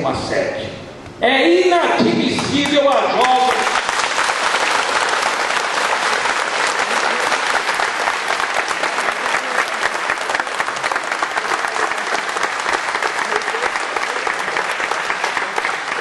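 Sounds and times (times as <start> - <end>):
audience applauding: 2.3 - 16.0.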